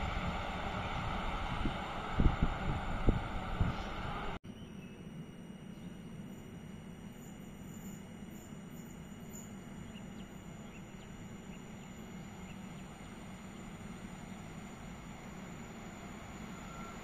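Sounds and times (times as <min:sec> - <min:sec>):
railway station rumble and hiss: 0:00.0 - 0:17.0.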